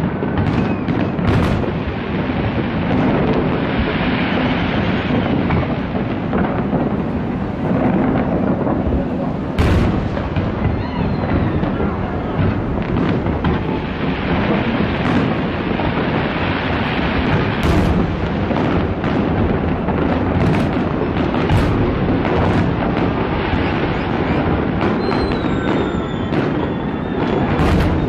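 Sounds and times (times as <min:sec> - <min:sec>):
fireworks rumbling: 0:00.0 - 0:28.0
sharp firework bangs: 0:00.0 - 0:28.0.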